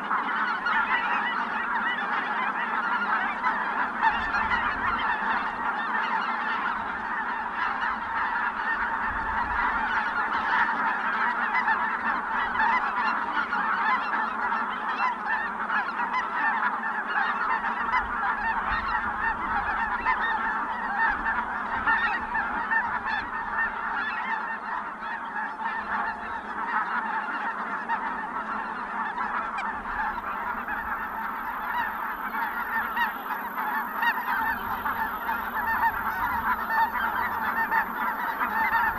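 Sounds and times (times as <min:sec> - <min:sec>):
flock of geese honking: 0:00.0 - 0:38.9.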